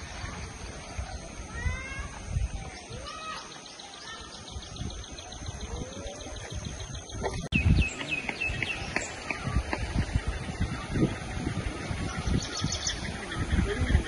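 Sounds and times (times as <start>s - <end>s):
birds chirping: 0.0s - 14.0s
wind rumbling on microphone: 0.0s - 14.0s.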